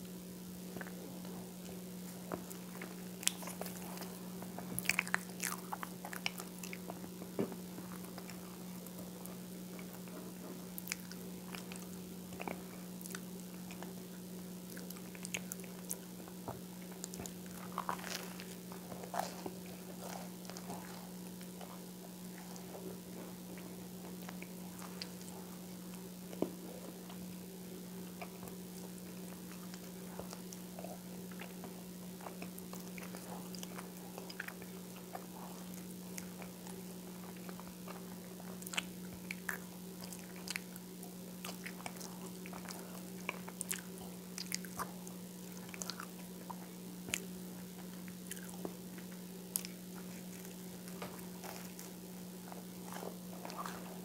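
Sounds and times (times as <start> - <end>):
toast crunching while chewing: 0.7 - 54.0.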